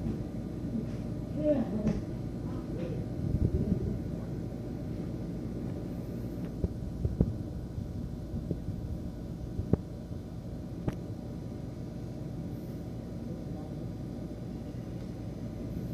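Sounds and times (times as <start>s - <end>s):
computer fan humming: 0.0s - 15.9s.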